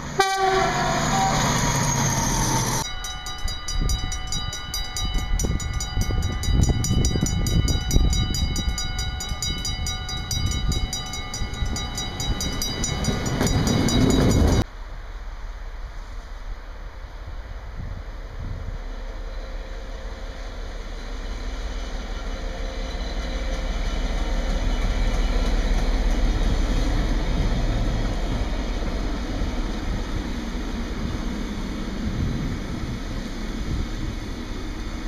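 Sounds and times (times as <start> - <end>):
diesel locomotive engine passing: 0.0 - 35.0
train wagons rumbling on rails: 0.0 - 35.0.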